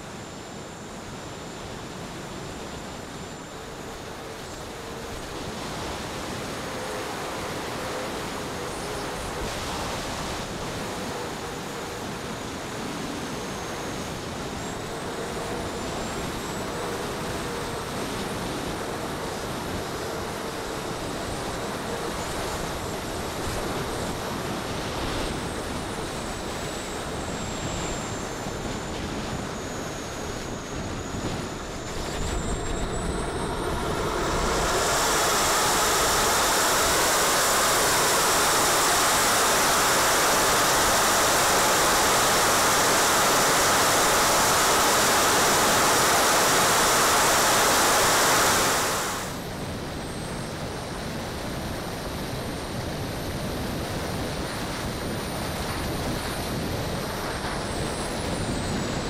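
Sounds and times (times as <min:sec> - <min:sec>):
turbine whistle: 0:00.0 - 0:51.7, 0:55.6 - 0:59.0
turbine full-power roar: 0:00.0 - 0:59.0.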